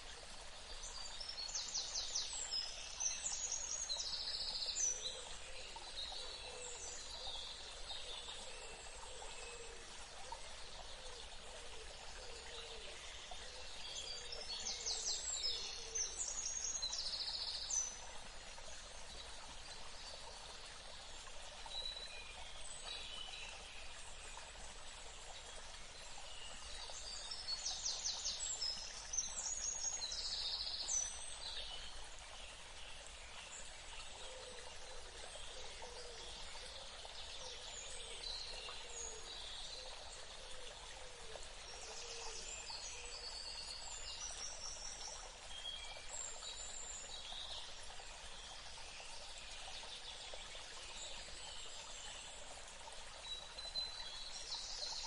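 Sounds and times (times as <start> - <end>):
outdoor ambience hiss: 0.0 - 55.0.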